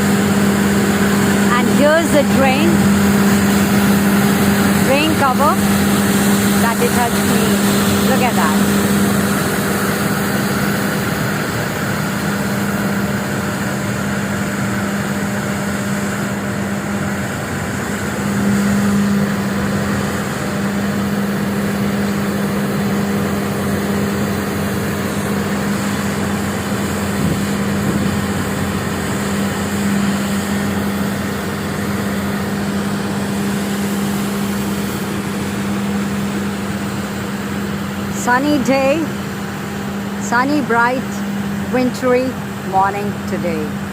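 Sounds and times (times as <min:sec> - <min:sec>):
road sweeper engine and suction fan: 0:00.0 - 0:43.9.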